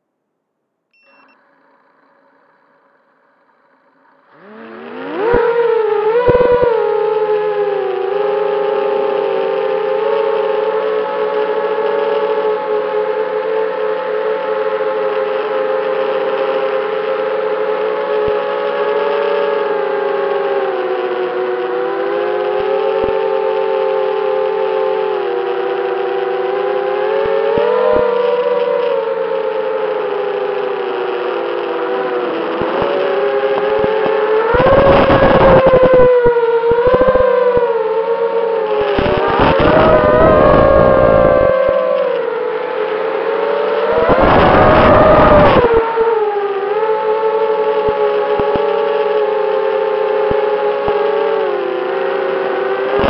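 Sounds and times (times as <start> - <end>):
drone motors whining: 1.0 - 53.0.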